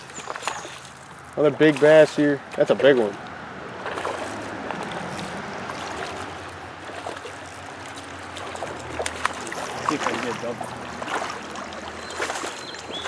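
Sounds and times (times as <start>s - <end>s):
fish splashing at surface: 0.0s - 13.0s
moving water: 0.0s - 13.0s.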